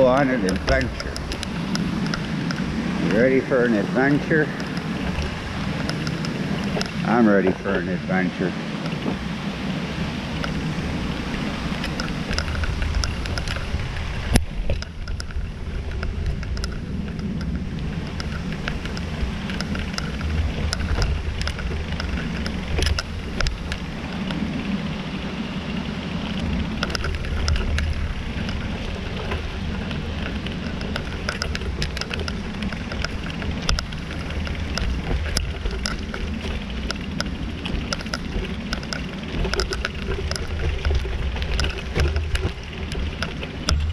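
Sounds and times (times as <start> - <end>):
bike clicks and rattles: 0.0 - 43.9
bike tyres rumbling on dirt: 0.0 - 43.9.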